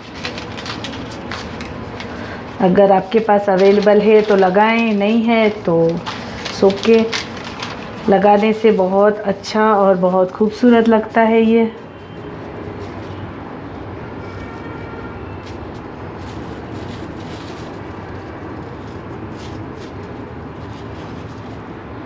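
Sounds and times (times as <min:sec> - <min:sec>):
foil crinkling: 0:00.0 - 0:22.0.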